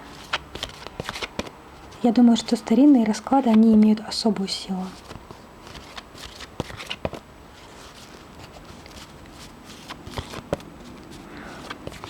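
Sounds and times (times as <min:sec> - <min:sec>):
cards being shuffled: 0:00.0 - 0:12.0
cards clicking and tapping: 0:00.2 - 0:07.2, 0:07.8 - 0:12.0.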